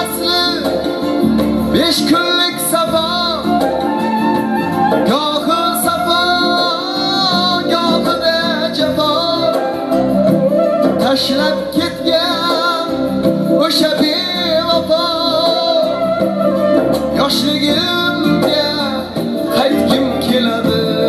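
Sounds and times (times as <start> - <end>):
instrumental backing music: 0.0 - 21.0
man singing: 0.0 - 21.0.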